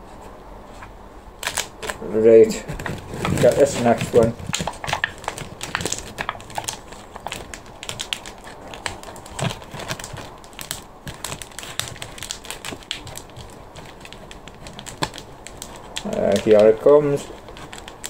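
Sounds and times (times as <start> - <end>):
plastic tray crackling: 1.4 - 18.0
soil rustling: 1.4 - 18.0.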